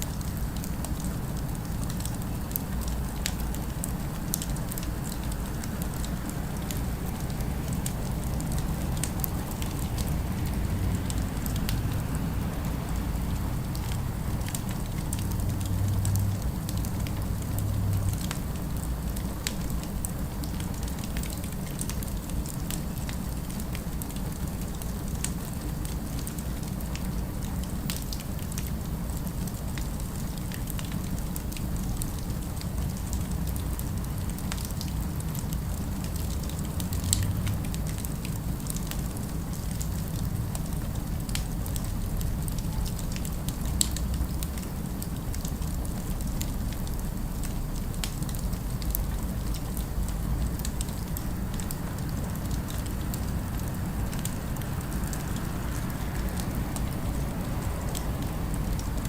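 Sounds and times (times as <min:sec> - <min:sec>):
low city rumble: 0:00.0 - 0:59.0.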